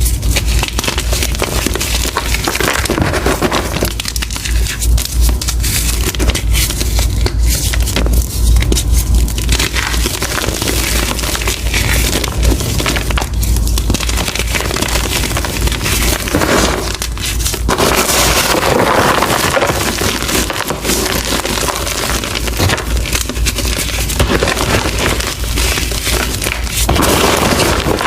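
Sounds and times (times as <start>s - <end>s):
chalk block crunching: 0.0s - 28.0s.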